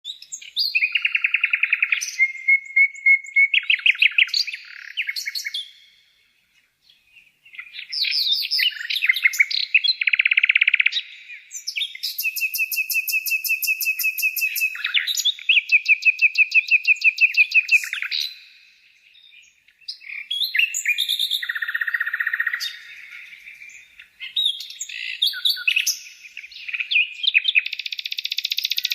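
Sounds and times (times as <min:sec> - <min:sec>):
songbird singing: 0:00.0 - 0:28.9.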